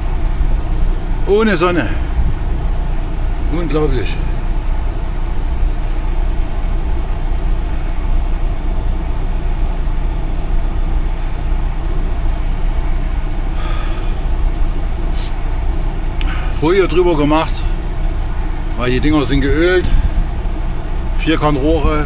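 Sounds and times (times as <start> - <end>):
truck diesel engine idling: 0.0 - 22.0.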